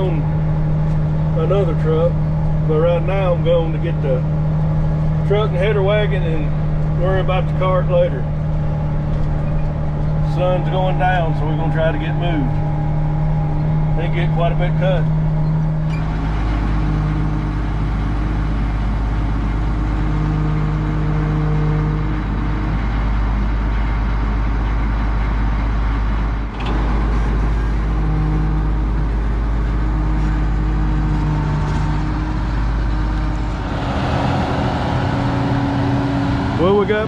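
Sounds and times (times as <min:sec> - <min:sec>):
truck engine rumbling: 0:00.0 - 0:37.0.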